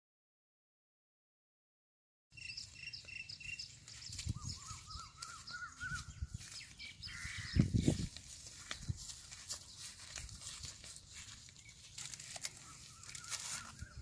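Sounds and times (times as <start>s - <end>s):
birds chirping: 2.3s - 14.0s.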